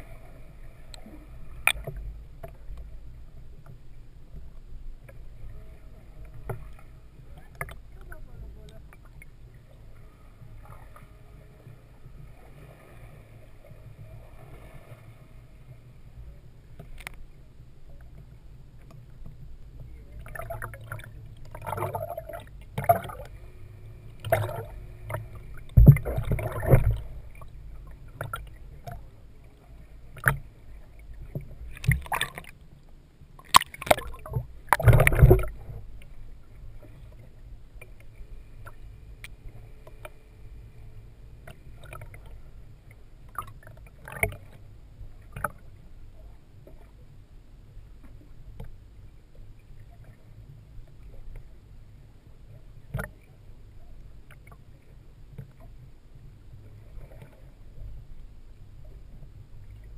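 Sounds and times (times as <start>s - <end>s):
low underwater rumble: 0.0s - 59.9s.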